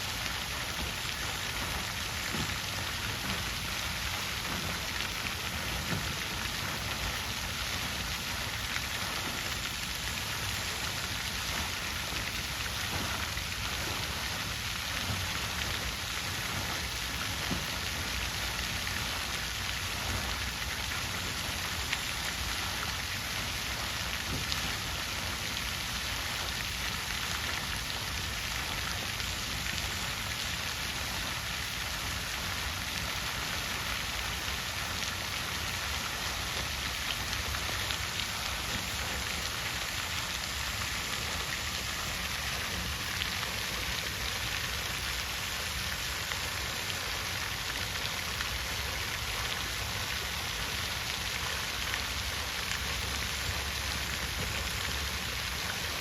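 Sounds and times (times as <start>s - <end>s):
water fountain splashing: 0.0s - 56.0s.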